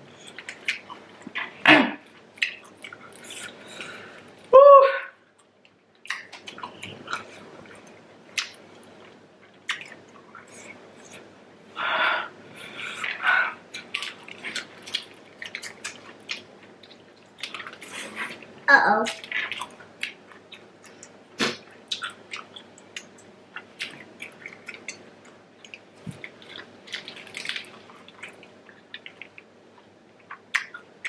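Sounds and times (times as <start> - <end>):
chewing and wet smacks: 0.2 - 4.4, 5.3 - 11.3, 12.9 - 31.0.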